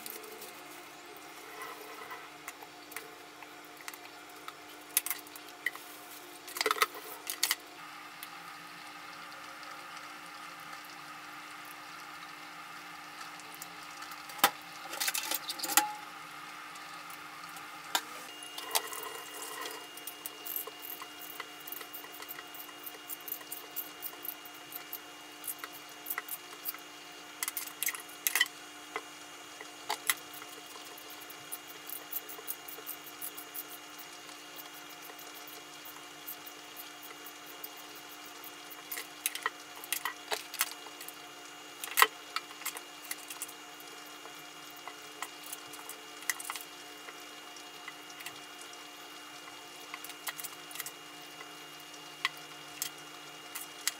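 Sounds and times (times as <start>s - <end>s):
pots boiling on gas stove: 0.0s - 53.9s.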